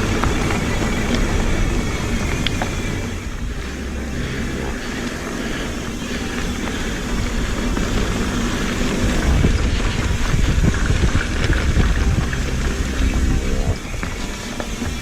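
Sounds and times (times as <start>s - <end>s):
bike rattling and knocking: 0.0s - 15.0s
bike tyres rolling: 0.0s - 15.0s
wind on microphone: 0.0s - 15.0s.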